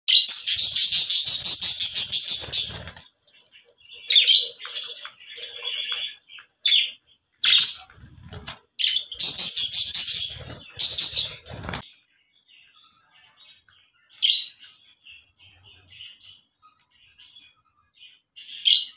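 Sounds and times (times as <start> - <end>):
budgerigars chirping and warbling: 0.1 - 18.9.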